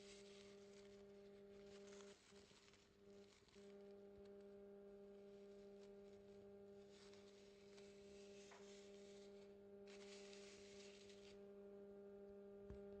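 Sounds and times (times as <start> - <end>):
faint electrical hum: 0.0 - 13.0
soft hiss: 0.0 - 13.0.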